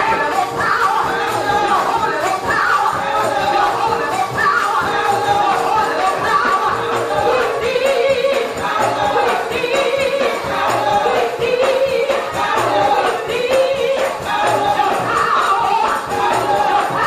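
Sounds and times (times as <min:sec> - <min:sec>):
gospel choir singing: 0:00.0 - 0:17.0
musical accompaniment with beat: 0:00.0 - 0:17.0.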